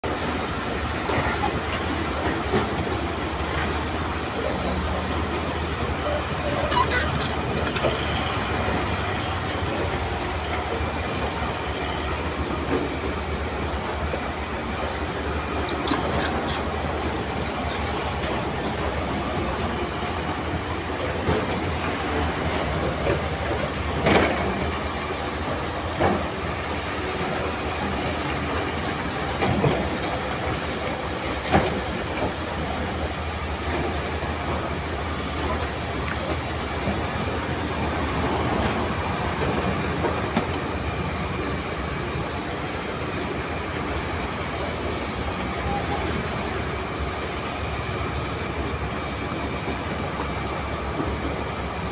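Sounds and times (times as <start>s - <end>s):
steel buckets and tracks clanking: 0.8s - 51.9s.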